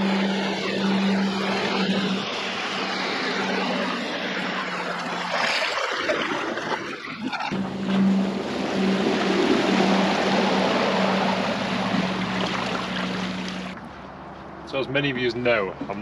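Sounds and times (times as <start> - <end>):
electric motor low hum: 0.0 - 14.7
water and wind rushing: 0.0 - 16.0.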